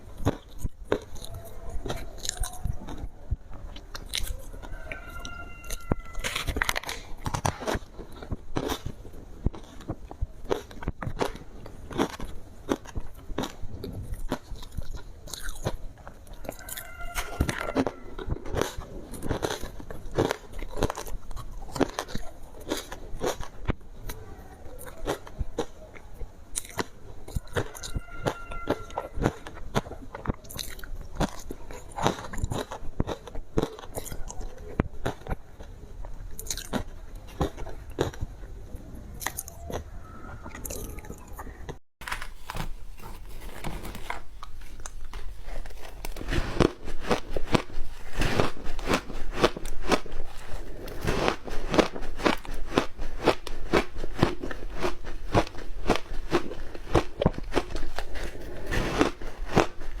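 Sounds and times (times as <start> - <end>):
ice crunching being chewed: 0.0 - 38.5, 39.2 - 39.9, 42.0 - 60.0.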